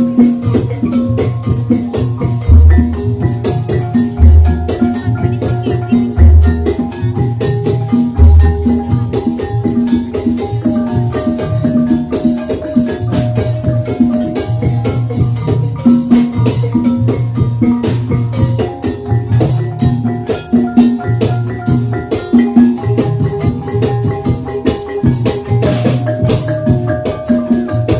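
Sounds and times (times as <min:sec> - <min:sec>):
drum strokes: 0:00.0 - 0:27.9
gamelan music: 0:00.0 - 0:27.9
mallet-struck keyed instruments: 0:00.0 - 0:27.9.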